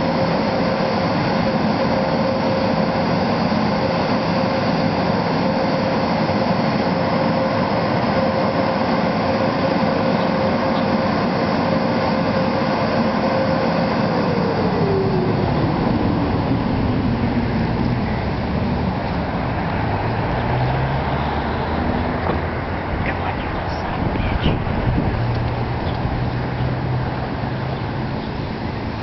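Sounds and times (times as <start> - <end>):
cars passing on road: 0.0 - 29.0.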